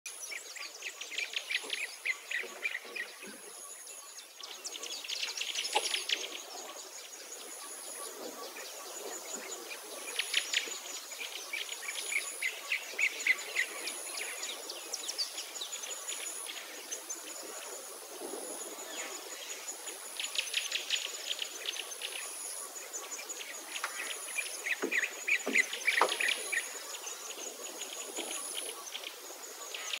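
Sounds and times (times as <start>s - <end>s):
birds singing and calling: 0.1s - 30.0s
insect high-pitched chirp: 0.1s - 30.0s.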